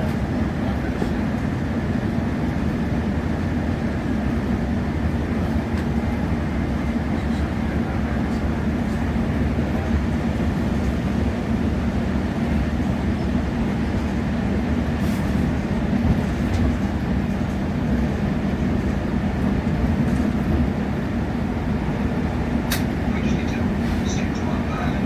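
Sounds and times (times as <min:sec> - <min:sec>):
train carriage rumble: 0:00.0 - 0:25.0.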